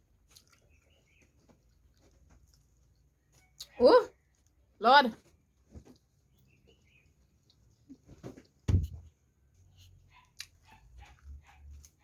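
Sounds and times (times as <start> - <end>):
wet chewing and smacking: 0.0 - 4.7, 6.0 - 12.0.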